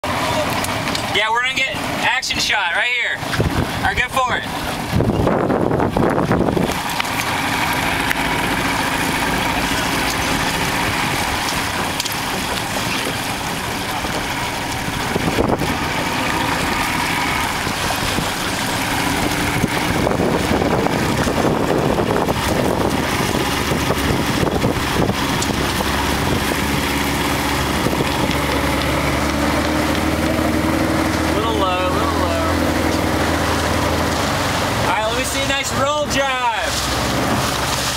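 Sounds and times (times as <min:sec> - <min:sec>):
motorboat engine running: 0:00.0 - 0:37.9.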